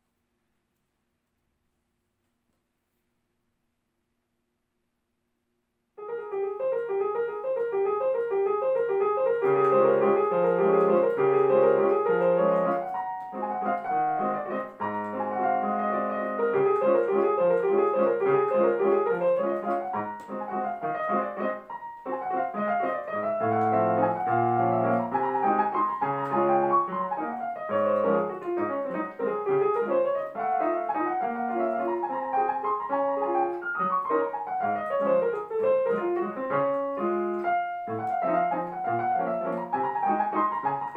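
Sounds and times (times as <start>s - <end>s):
digital piano classical piece: 6.0s - 40.9s.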